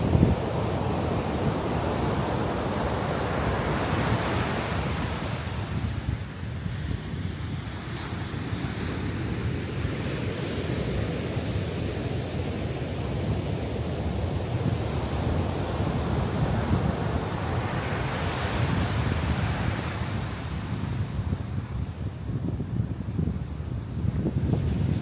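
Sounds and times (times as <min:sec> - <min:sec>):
wind buffeting microphone: 0:00.0 - 0:11.7, 0:14.2 - 0:25.0.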